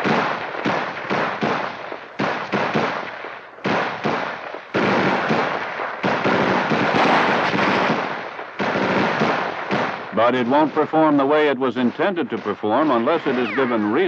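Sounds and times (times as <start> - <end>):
loud explosions: 0.0 - 14.0
rifle shots: 0.0 - 14.0.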